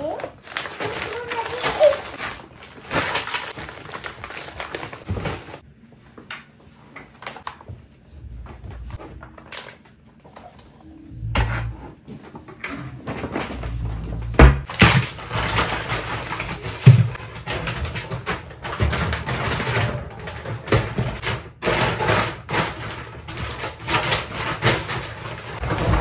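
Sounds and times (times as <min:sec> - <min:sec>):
objects knocking and thudding: 0:00.5 - 0:05.6, 0:07.4 - 0:09.7, 0:11.1 - 0:26.0.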